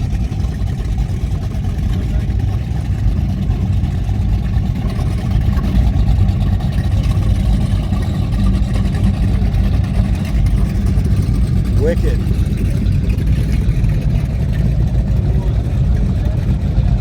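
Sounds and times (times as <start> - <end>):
powerboat engines rumbling: 0.0 - 17.0.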